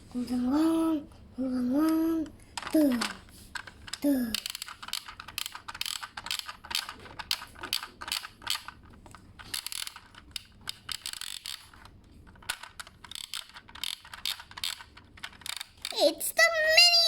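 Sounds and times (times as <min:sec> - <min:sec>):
plastic toy parts clicking: 0:01.9 - 0:17.0.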